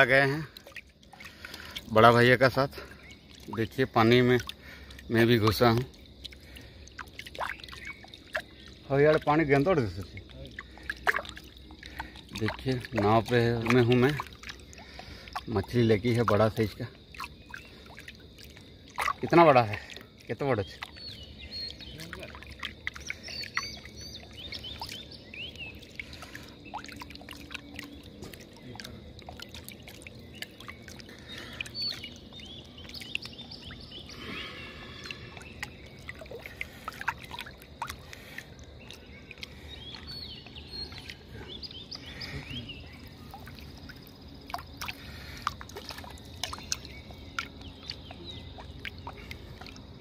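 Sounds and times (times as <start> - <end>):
birds chirping: 0.0 - 50.0
water lapping and splashing: 0.0 - 50.0.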